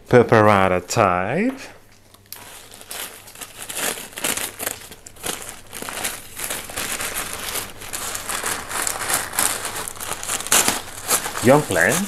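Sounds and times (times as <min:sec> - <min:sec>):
packing paper crinkling: 0:02.0 - 0:12.0.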